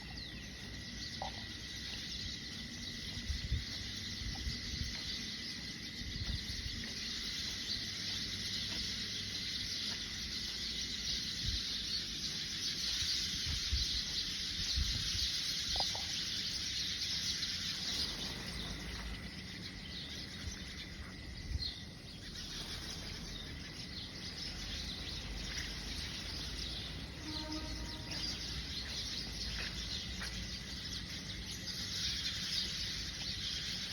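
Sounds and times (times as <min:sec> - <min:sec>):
chorus of birds chirping: 0:00.0 - 0:33.9.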